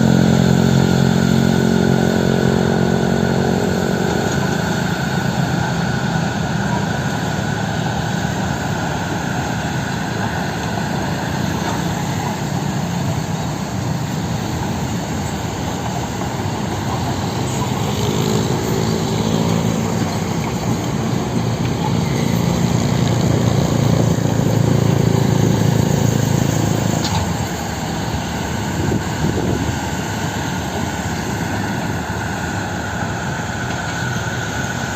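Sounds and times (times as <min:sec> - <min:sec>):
heavy machinery diesel engines droning: 0:00.0 - 0:34.9.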